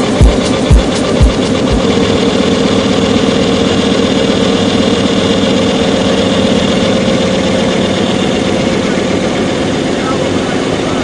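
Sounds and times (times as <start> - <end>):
gas compressor running: 0.0 - 11.0.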